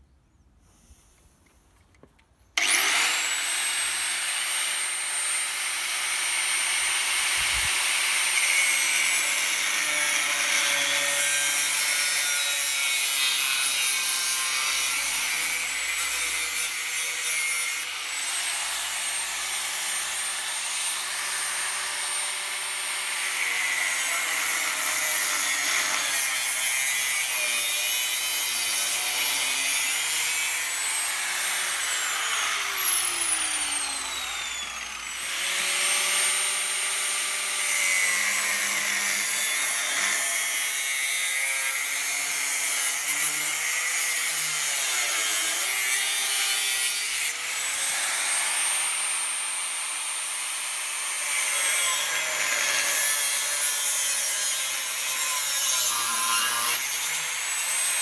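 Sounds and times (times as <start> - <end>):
angle grinder cutting steel: 2.6 - 58.0.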